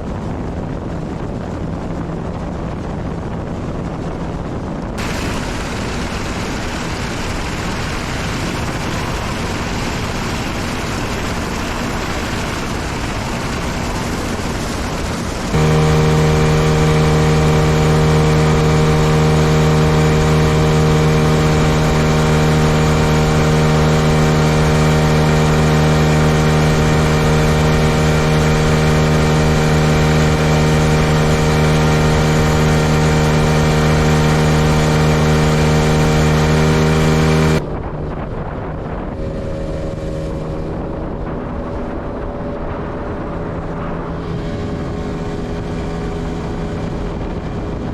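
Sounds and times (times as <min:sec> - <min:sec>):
wind and water rushing: 0:00.0 - 0:47.9
outboard motor droning: 0:05.0 - 0:47.9.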